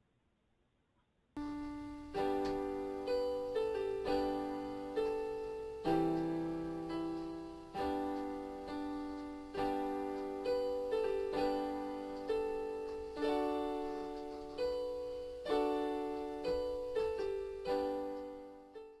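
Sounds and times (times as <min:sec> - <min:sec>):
slow piano chords: 0:01.4 - 0:19.0.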